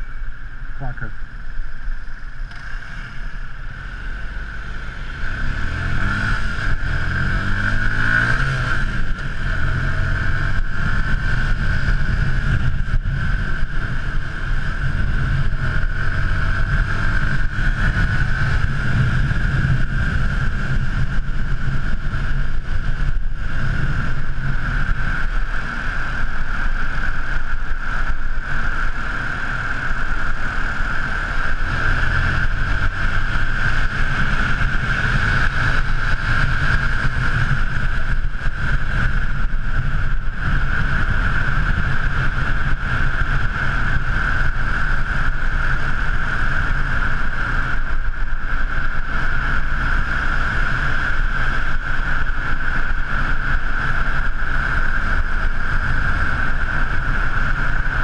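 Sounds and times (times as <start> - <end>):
motorcycle engine accelerating: 0.0 - 58.0
wind rumbling on microphone: 0.0 - 58.0.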